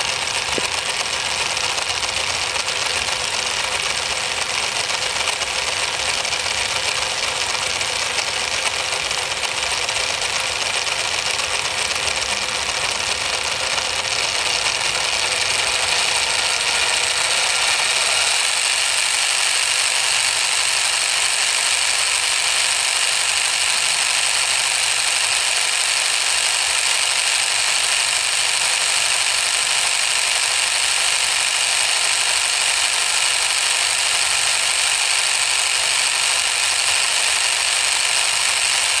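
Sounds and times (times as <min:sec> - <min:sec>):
model diesel engine running: 0:00.0 - 0:39.0.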